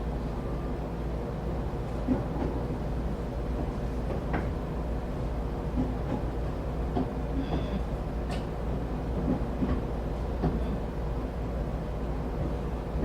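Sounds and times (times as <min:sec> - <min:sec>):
train car rumble and hum: 0:00.0 - 0:13.0.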